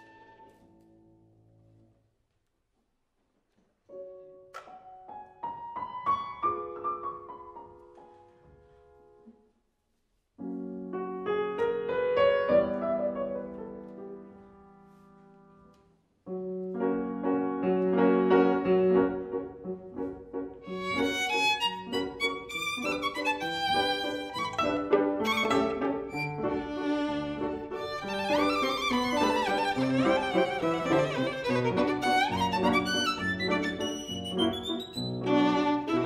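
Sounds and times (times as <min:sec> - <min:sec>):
piano music: 0:00.0 - 0:01.5, 0:03.9 - 0:09.3, 0:10.4 - 0:36.0.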